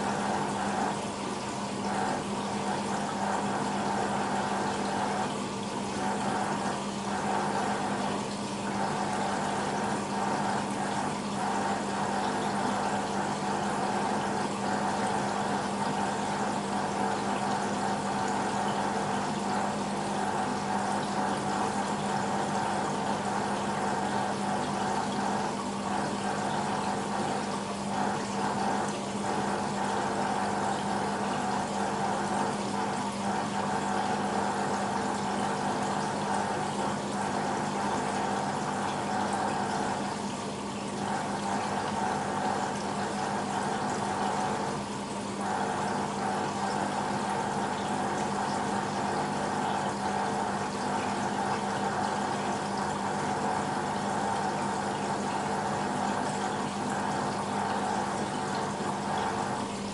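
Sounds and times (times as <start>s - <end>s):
washing machine hum: 0.0s - 59.9s
water rushing in washing machine: 0.0s - 59.9s.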